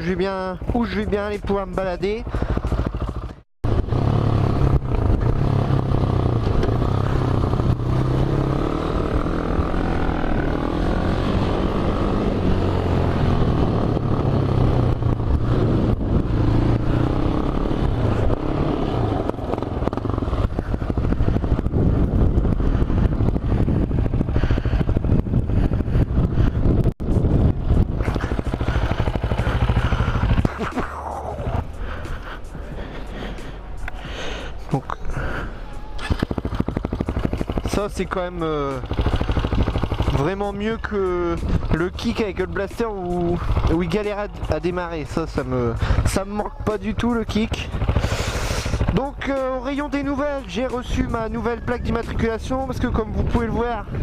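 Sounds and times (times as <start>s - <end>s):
quad engine revving: 0.8s - 32.1s, 34.8s - 54.0s.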